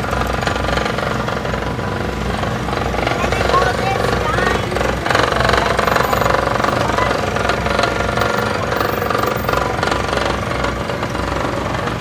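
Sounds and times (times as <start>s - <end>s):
fast rattling: 0.0s - 12.0s
motor droning: 0.0s - 12.0s.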